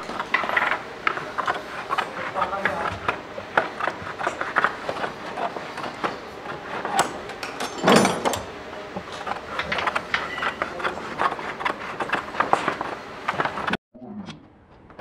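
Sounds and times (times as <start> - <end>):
paper sheet crackling and rustling: 0.0 - 7.4, 8.9 - 13.8.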